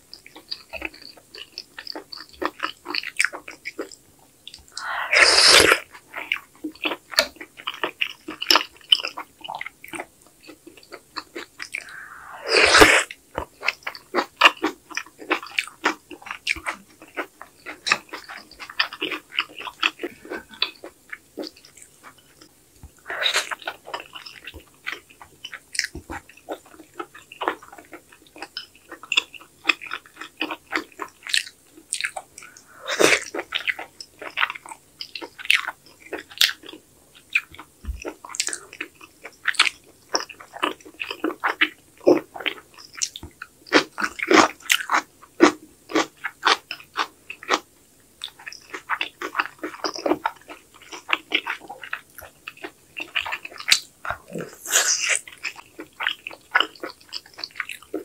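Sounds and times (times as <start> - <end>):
person chewing food: 0.1 - 58.0.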